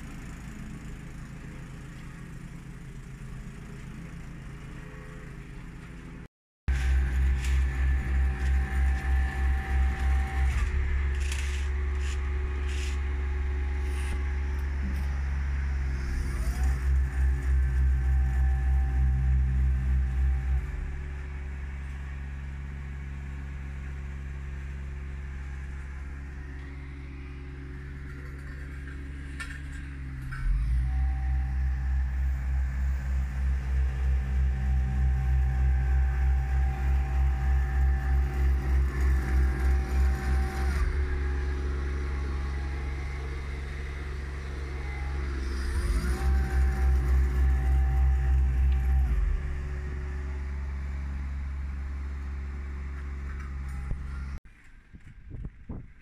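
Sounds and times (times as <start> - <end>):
asphalt roller engine drone: 0.0 - 56.0.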